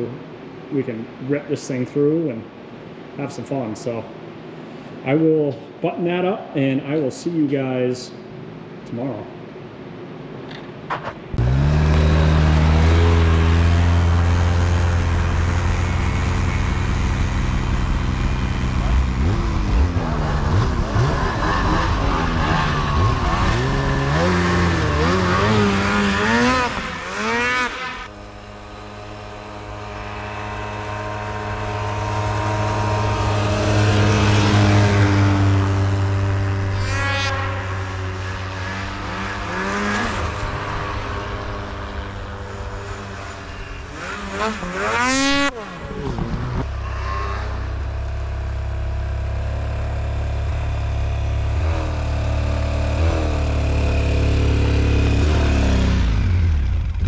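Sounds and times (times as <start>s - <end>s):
atv engine revving: 11.3s - 57.0s.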